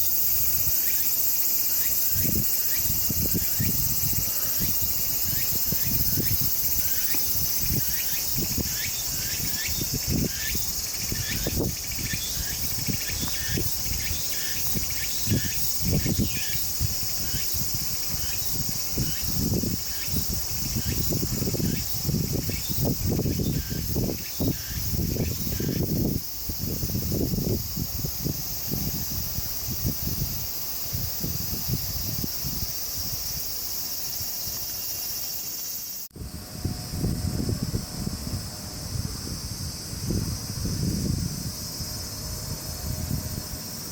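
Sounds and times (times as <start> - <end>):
insects chirping: 0.0 - 43.9.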